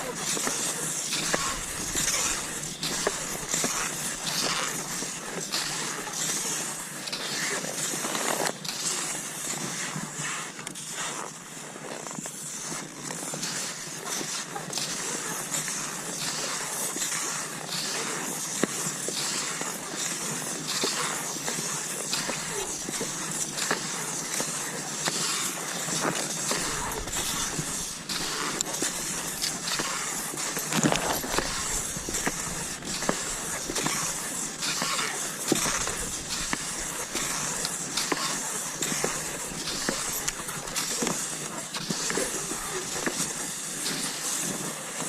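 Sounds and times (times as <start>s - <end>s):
skis sliding over snow: 0.0s - 45.0s.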